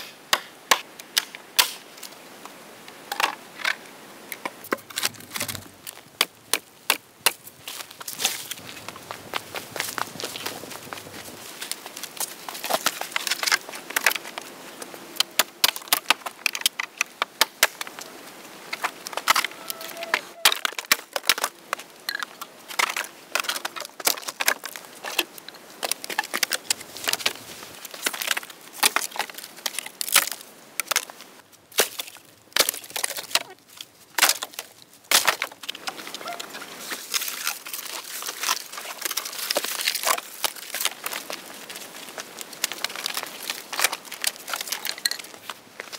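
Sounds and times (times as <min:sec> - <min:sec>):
dry branches cracking and snapping: 0:04.6 - 0:08.9, 0:09.8 - 0:14.5, 0:15.2 - 0:18.1, 0:18.7 - 0:45.9.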